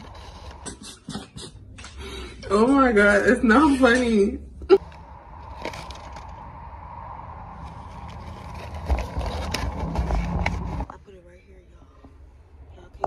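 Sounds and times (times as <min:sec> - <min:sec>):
low car rumble: 0:02.4 - 0:13.0.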